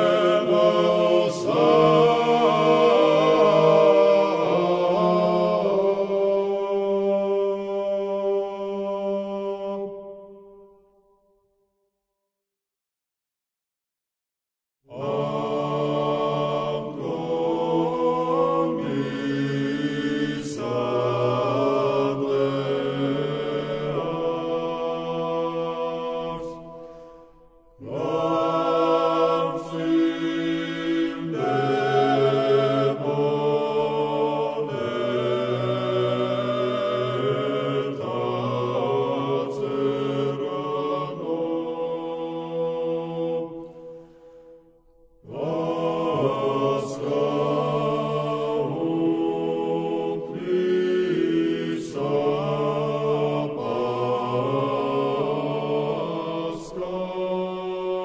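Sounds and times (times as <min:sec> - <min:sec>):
choir singing unaccompanied chant: 0:00.0 - 0:10.5, 0:14.9 - 0:58.0.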